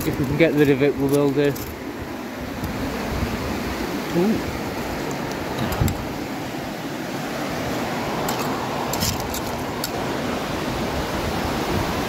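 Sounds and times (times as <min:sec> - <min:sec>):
river water rushing over stones: 0:00.0 - 0:12.0.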